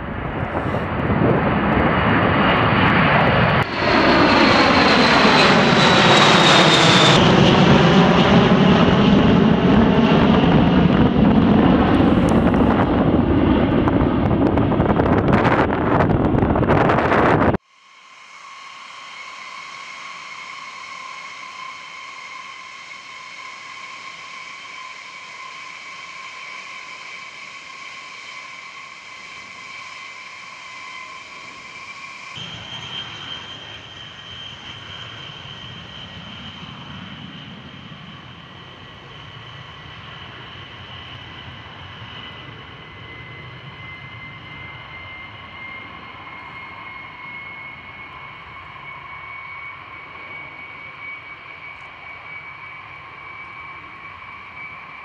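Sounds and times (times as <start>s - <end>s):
deep rumble of jet takeoff: 0.0s - 55.0s
jet engines whining: 0.0s - 55.0s.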